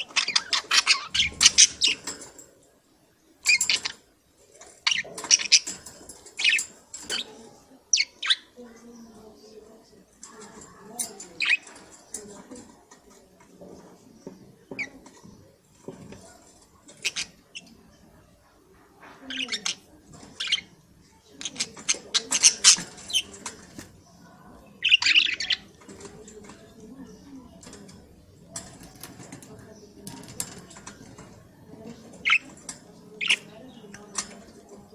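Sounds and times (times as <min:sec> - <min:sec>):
budgerigars chirping and chattering: 0:00.0 - 0:02.4, 0:03.4 - 0:09.2, 0:10.2 - 0:12.6, 0:13.6 - 0:18.1, 0:19.2 - 0:34.9.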